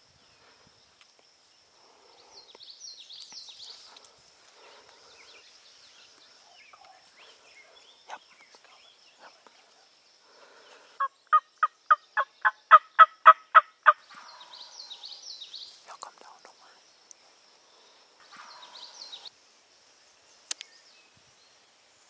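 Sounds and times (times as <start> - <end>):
faint songbird chirps: 0.0 - 22.0.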